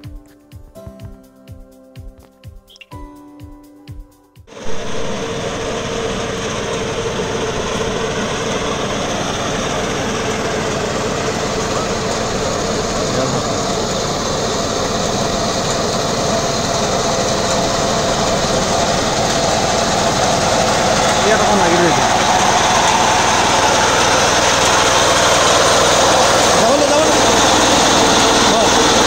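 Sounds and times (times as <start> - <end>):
small engine running under load: 4.5 - 29.0.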